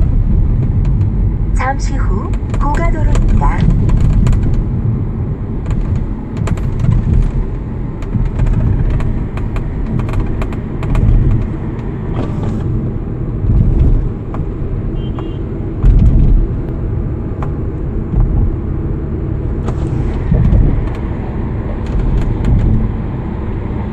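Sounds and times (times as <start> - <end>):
road and tyre rumble: 0.0 - 23.9
sunroof rattling: 2.3 - 23.9.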